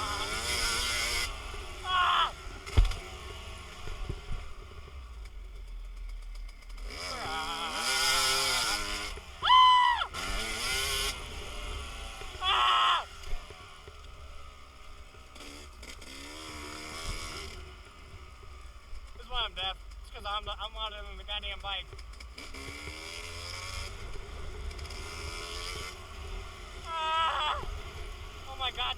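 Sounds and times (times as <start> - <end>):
dirt bike engines revving: 0.0 - 28.9.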